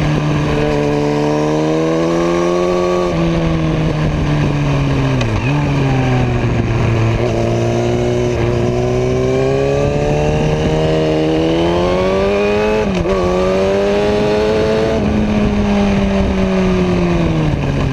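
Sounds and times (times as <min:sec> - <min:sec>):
motorcycle engine revving: 0:00.0 - 0:17.9
wind rush over microphone: 0:00.0 - 0:17.9.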